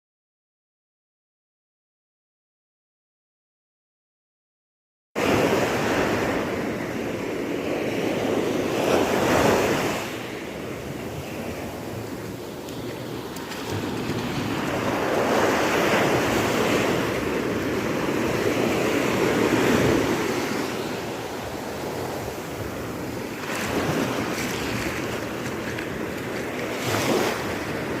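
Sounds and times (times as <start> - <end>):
sea waves breaking: 5.2 - 28.0.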